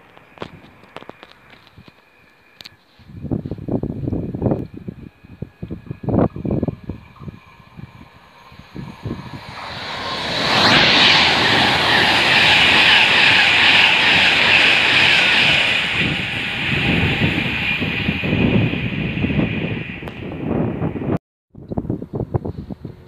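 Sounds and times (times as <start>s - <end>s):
electric train passing at speed: 0.0s - 21.2s.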